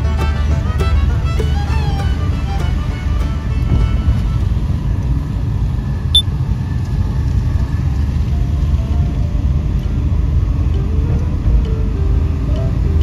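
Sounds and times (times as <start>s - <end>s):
van engine and tyre rumble: 0.0s - 13.0s.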